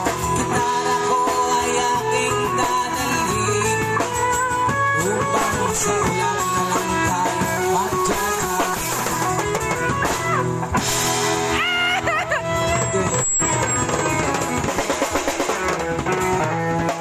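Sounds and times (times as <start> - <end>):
instrumental guitar and drums music: 0.0 - 17.0.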